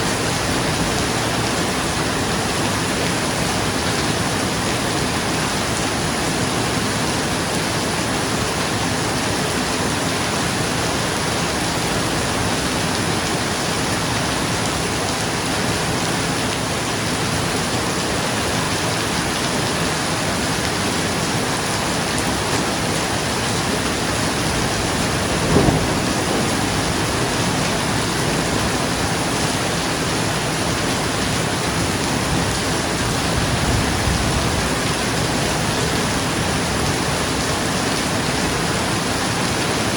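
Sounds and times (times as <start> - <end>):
heavy rain drumming on roof: 0.0 - 39.9.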